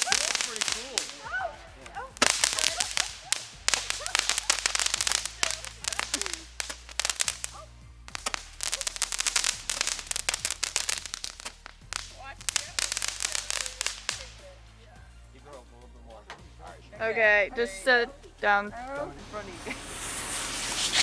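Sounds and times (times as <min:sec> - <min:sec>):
firework crackling: 0:00.0 - 0:21.0.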